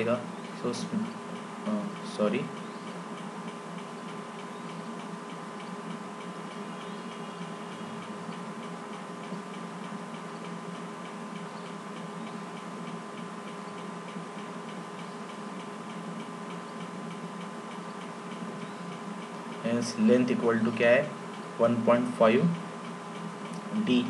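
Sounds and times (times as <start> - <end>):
electrical hum and hiss: 0.0 - 24.0
regular ticking: 0.0 - 24.0.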